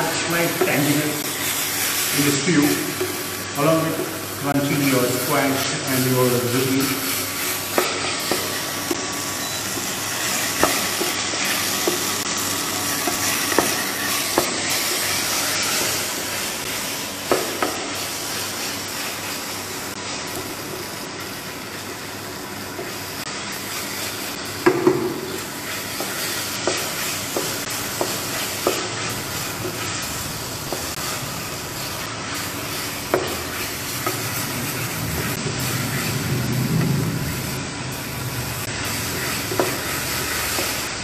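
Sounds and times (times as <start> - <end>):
vegetables sizzling in a pan: 0.0 - 41.0.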